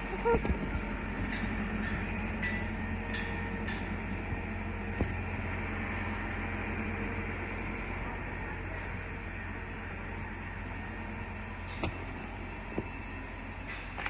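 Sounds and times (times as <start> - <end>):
vehicle rumbling in motion: 0.0 - 14.0.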